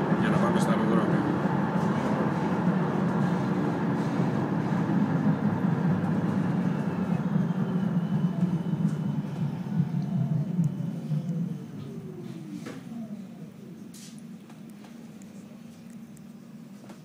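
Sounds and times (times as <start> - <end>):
tram wheels rumbling on rails: 0.0 - 15.1
faint whine dropping in pitch: 0.0 - 17.0.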